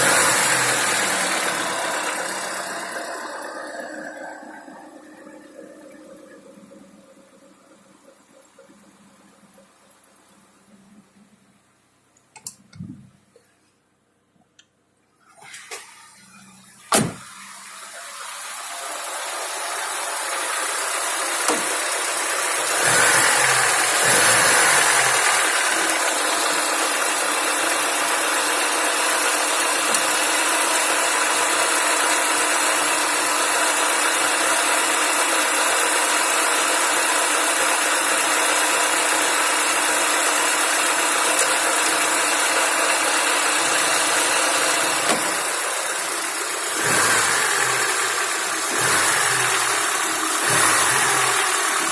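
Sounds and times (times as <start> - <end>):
car engine starting and running: 0.0 - 13.3, 15.3 - 51.9.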